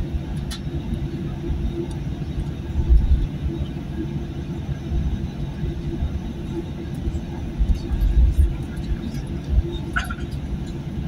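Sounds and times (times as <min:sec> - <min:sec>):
jet engine hum: 0:00.0 - 0:11.0.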